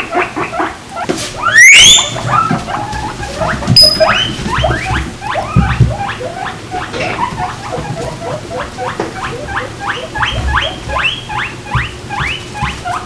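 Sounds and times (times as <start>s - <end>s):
guinea pigs wheeking: 0.0s - 13.0s.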